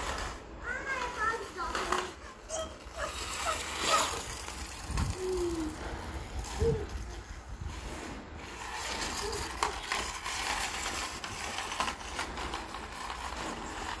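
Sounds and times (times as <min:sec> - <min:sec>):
toy car wheels rattling on concrete: 0:00.0 - 0:14.0.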